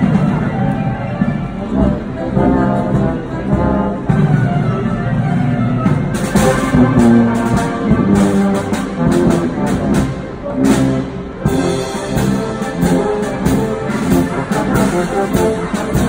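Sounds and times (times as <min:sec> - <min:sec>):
brass chords with tuba and trombones: 0:00.0 - 0:16.0
percussion strikes keeping a beat: 0:00.0 - 0:16.0.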